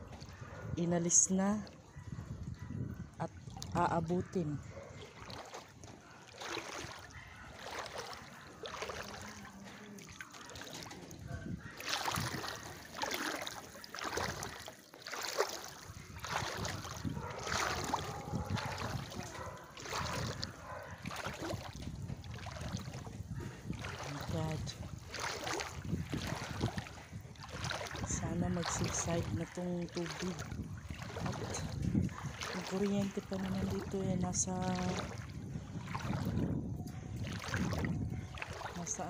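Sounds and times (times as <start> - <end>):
water swishing and splashing: 0.0 - 39.0.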